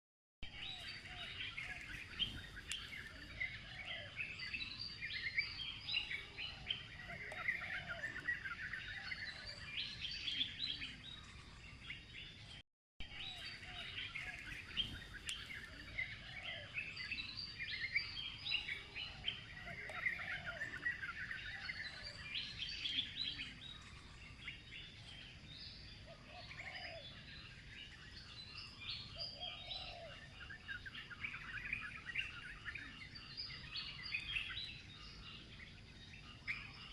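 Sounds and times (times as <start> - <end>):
birds chirping and calling: 0.4 - 36.9.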